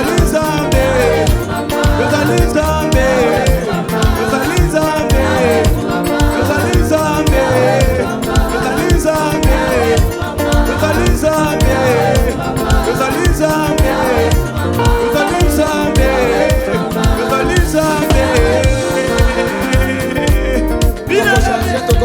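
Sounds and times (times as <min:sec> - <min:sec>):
steady drum beat: 0:00.0 - 0:22.0
worship band music: 0:00.0 - 0:22.0.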